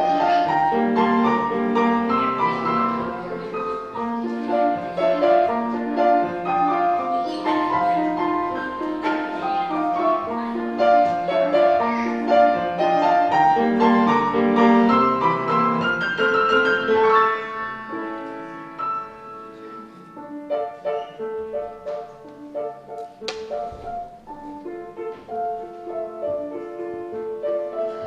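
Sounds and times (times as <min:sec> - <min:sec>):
piano melody over chords: 0:00.0 - 0:28.0.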